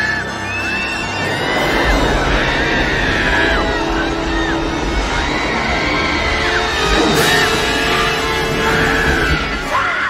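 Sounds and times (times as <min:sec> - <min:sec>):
film score music: 0:00.0 - 0:10.0
people yelling and shrieking: 0:00.0 - 0:10.0
low rumble: 0:00.5 - 0:09.7.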